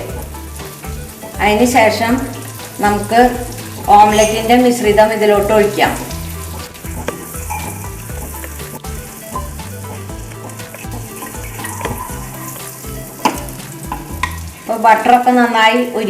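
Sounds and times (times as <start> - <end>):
butter sizzling in frying pan: 0.0 - 15.0.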